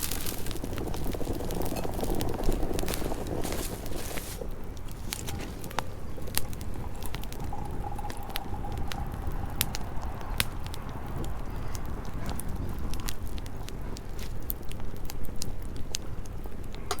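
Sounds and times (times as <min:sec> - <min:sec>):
low rumble: 0:00.0 - 0:14.7
wood fire crackling: 0:00.0 - 0:17.0.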